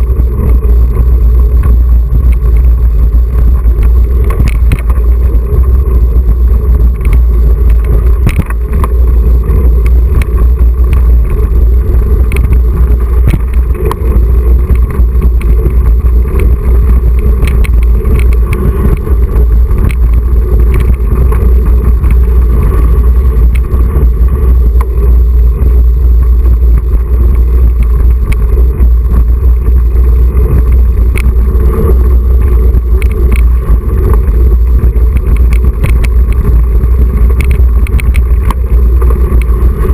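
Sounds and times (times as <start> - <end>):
wind rumble on camera: 0.0 - 39.9.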